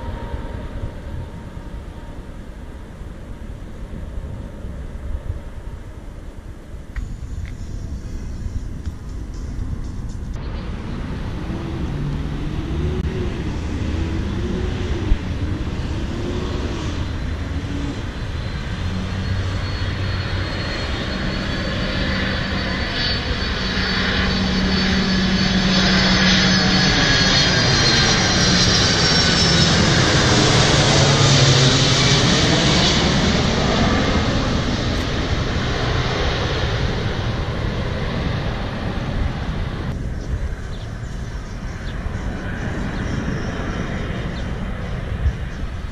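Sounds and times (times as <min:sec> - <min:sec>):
high engine whine: 0:00.0 - 0:45.9
jet airliner flying overhead: 0:00.0 - 0:45.9.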